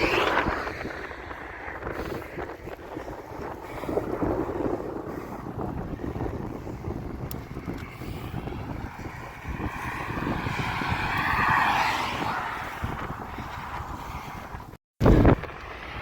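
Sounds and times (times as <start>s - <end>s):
motor vehicle passing: 0.0s - 14.6s
wind buffeting microphone: 0.0s - 16.0s.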